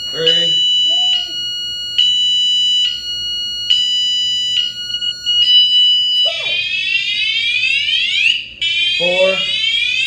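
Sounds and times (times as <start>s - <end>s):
alarm siren tones: 0.0s - 10.0s.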